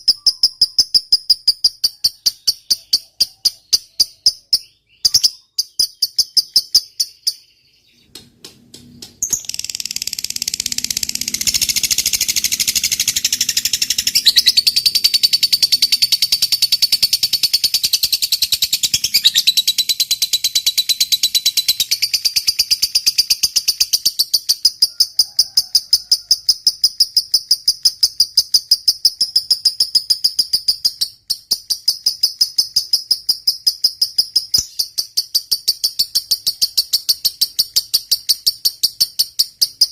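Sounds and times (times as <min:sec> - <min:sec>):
lovebird chattering trill: 0:00.0 - 0:07.6, 0:09.2 - 0:39.9.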